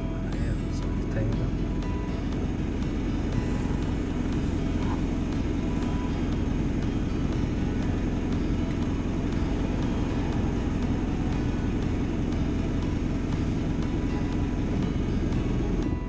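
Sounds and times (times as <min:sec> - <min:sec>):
minivan road and engine noise: 0:00.0 - 0:16.0.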